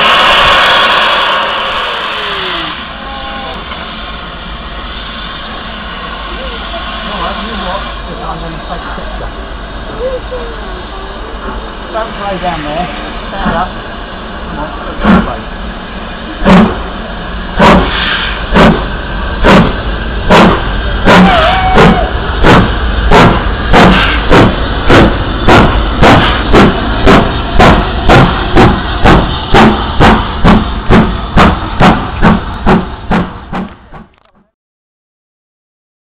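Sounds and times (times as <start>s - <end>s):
low rumble: 0.0s - 34.5s
steam locomotive chuffing: 0.0s - 34.5s.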